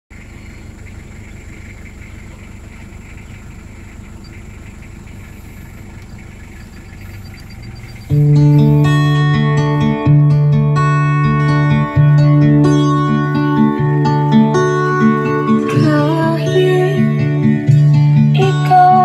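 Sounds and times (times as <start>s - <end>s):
car idling inside cabin: 0.1s - 19.0s.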